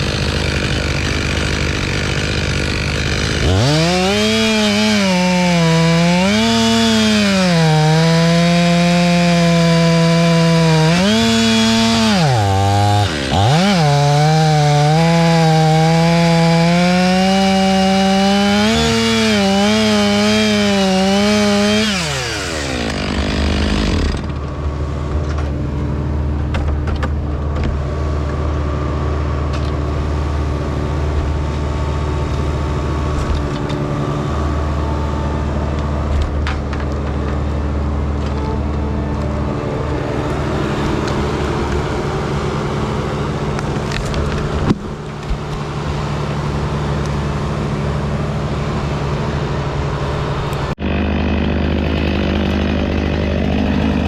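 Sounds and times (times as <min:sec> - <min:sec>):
chainsaw cutting wood: 0:00.0 - 0:24.5, 0:31.3 - 0:54.0.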